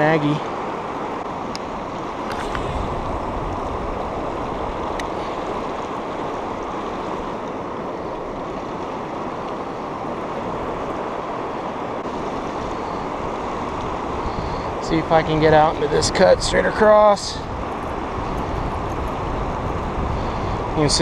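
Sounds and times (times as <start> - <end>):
river current over rocks: 0.0 - 21.0.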